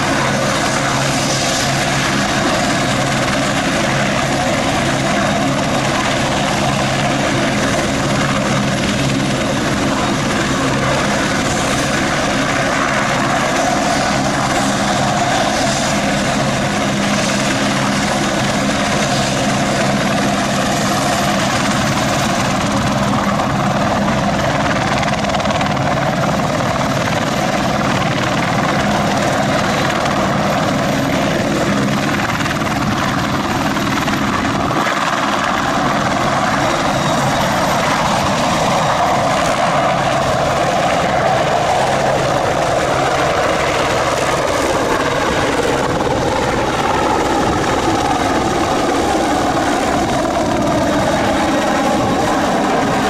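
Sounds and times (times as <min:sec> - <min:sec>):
helicopter rotor noise: 0:00.0 - 0:53.0
high turbine whine: 0:00.0 - 0:53.0.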